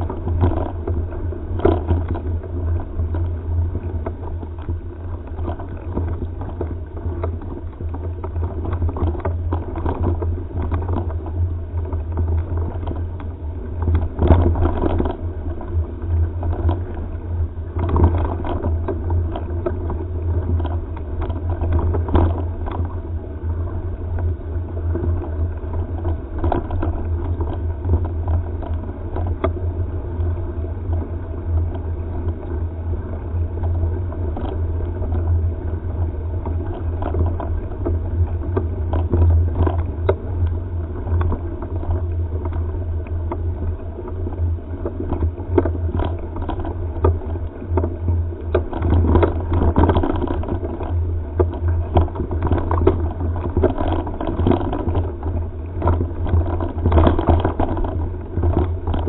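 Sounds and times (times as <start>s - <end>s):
camera knocks and rattles: 0.0s - 32.6s, 33.5s - 59.0s
wind buffeting microphone: 0.0s - 59.0s.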